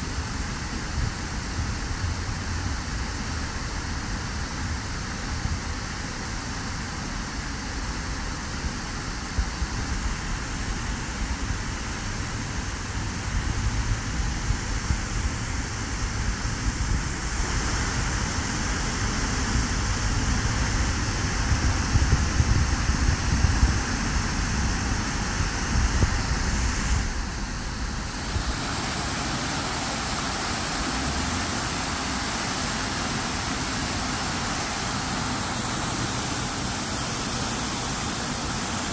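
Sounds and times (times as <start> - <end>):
fountain water splashing: 0.0 - 38.9
low rumble of road traffic: 0.0 - 38.9.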